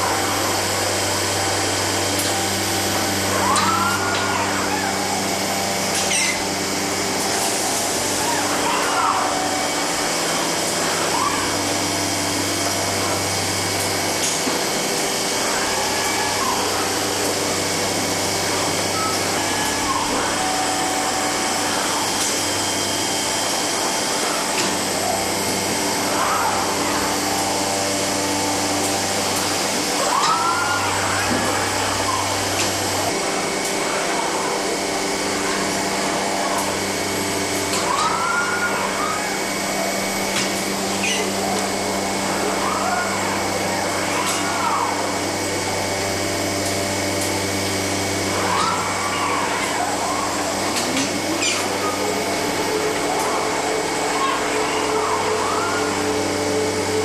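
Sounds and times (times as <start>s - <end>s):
motor whine rising and falling: 0.0s - 57.0s
motors and conveyors humming: 0.0s - 57.0s.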